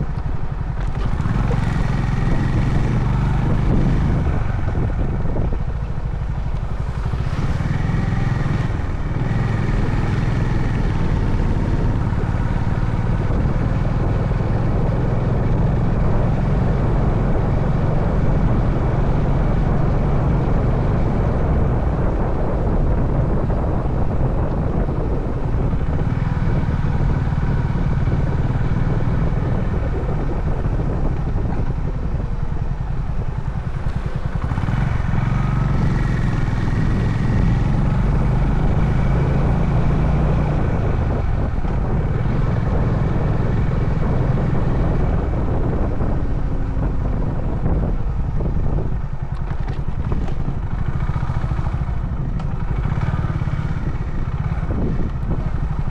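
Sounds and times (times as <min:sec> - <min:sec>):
motorcycle engine running: 0:00.0 - 0:55.9
road noise: 0:00.0 - 0:55.9
wind noise: 0:00.0 - 0:55.9.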